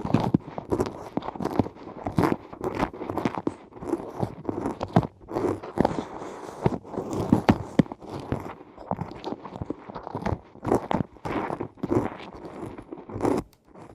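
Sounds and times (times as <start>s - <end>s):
crunchy ear scraping and crackling: 0.0s - 13.9s.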